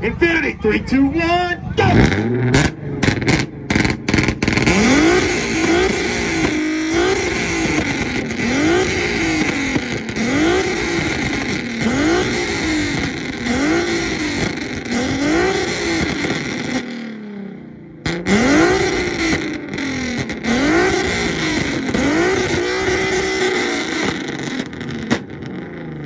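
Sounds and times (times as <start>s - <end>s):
car engine revving: 1.6s - 26.0s.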